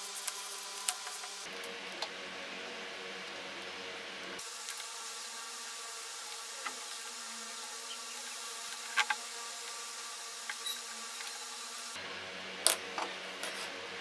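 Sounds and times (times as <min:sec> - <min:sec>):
steady buzzing hum: 0:00.0 - 0:14.0.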